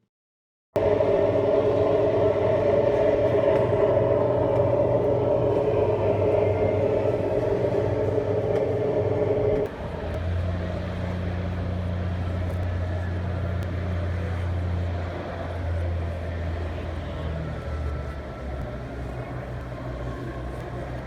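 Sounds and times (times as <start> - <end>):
higher-pitched engine sound: 0.8 - 21.0
low engine drone: 0.8 - 21.0.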